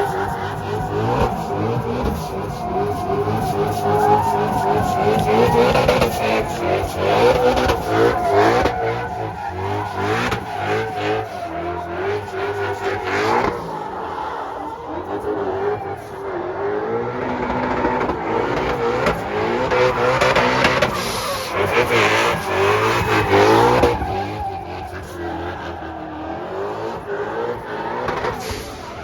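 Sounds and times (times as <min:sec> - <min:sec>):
tyres squealing: 0:00.0 - 0:16.4, 0:17.4 - 0:29.0
car engines revving: 0:00.0 - 0:29.0.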